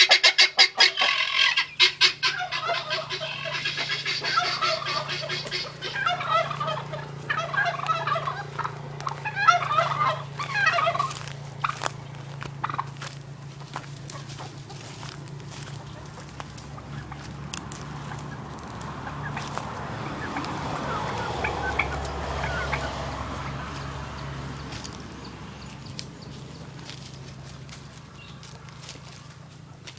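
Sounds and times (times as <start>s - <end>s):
poultry warbling calls: 0.0s - 29.9s
low hum: 2.2s - 29.4s.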